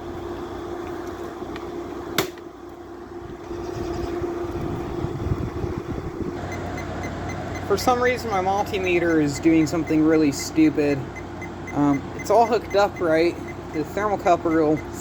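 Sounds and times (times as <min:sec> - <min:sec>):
air conditioner unit humming: 0:00.0 - 0:15.0.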